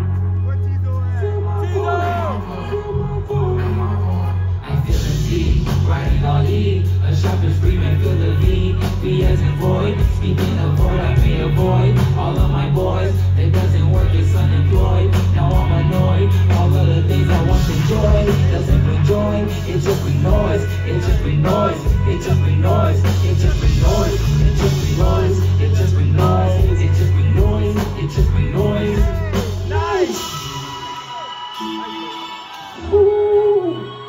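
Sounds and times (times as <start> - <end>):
heavy bass: 0.0 - 31.2
drums: 0.0 - 34.0
live band music over loudspeakers: 0.0 - 34.0
person singing: 1.2 - 34.0.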